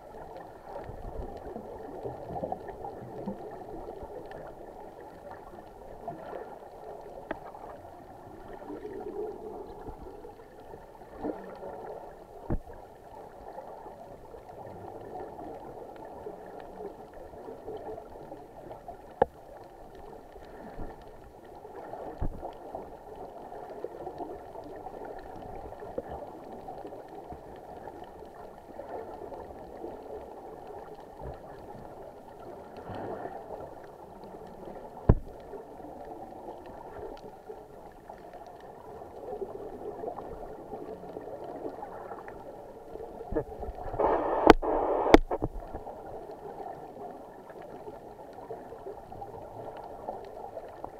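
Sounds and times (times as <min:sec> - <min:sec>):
underwater bubbling: 0:00.0 - 0:50.9.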